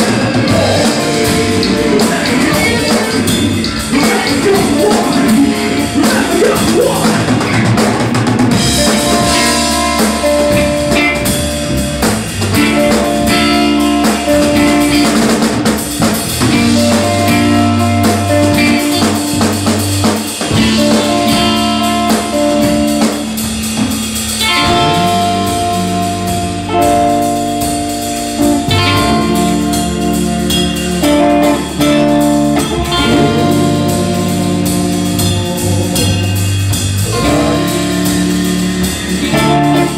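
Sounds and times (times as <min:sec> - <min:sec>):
bass guitar: 0:00.0 - 0:39.9
drum kit with cymbals: 0:00.0 - 0:39.9
electric guitar: 0:00.0 - 0:39.9.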